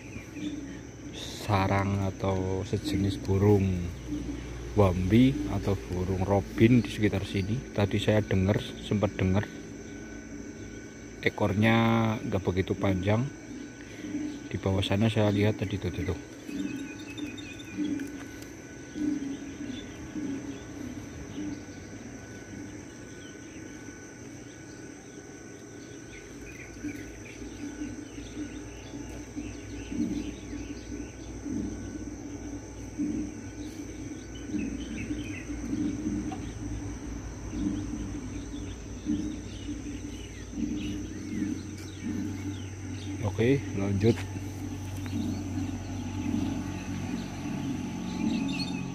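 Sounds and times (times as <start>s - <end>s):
bird chirps: 0.0s - 48.9s
insects chirring: 0.0s - 48.9s.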